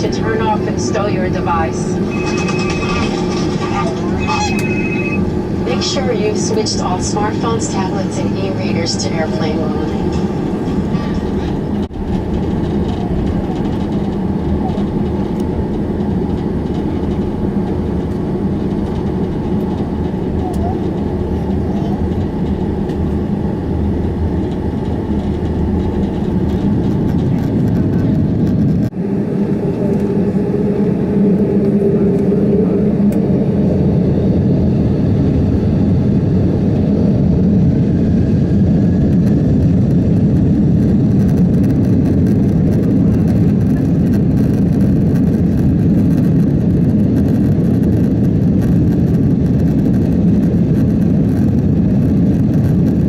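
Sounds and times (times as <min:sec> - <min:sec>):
jet engine and cabin rumble: 0:00.0 - 0:53.0.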